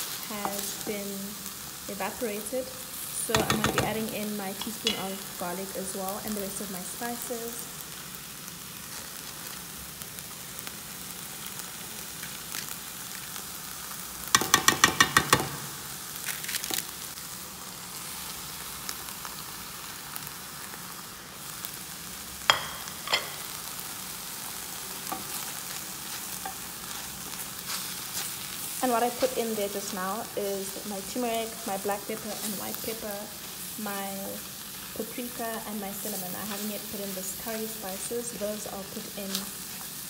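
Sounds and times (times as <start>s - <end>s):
onions sizzling in a pan: 0.0s - 40.0s.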